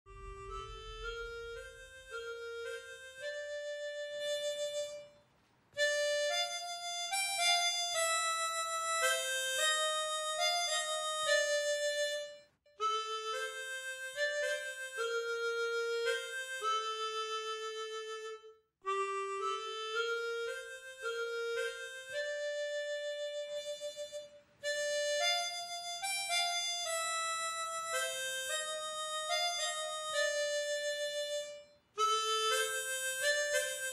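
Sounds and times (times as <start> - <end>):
reedy single-line melody: 0.1 - 5.1, 5.8 - 33.9.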